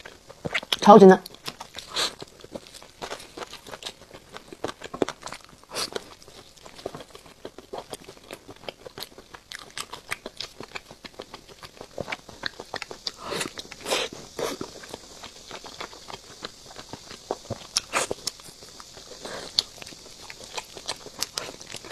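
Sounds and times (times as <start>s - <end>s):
person chewing wetly: 0.0s - 21.9s.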